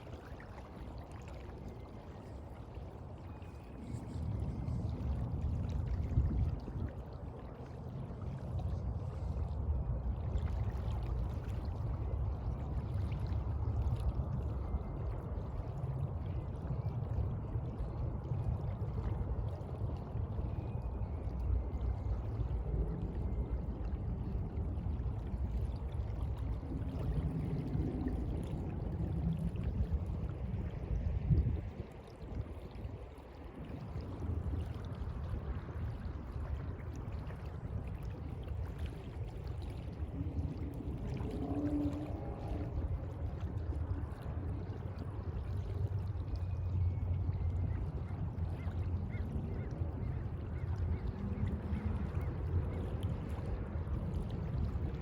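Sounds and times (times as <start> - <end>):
sea water washing and lapping: 0.0 - 55.0.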